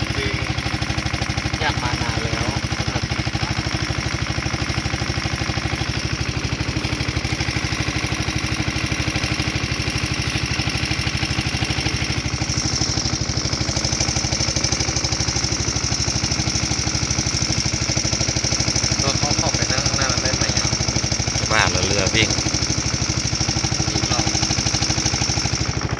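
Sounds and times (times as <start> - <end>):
boat engine chugging: 0.0 - 25.9.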